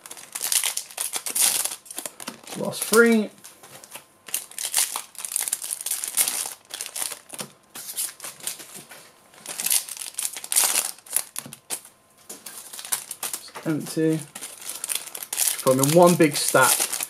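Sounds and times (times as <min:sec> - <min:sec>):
foil wrappers crinkling and tearing: 0:00.0 - 0:03.2, 0:03.8 - 0:08.8, 0:09.4 - 0:17.0.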